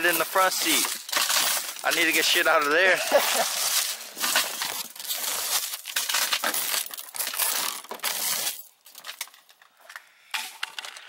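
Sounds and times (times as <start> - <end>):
broken glass crunching and clinking: 0.0 - 9.6.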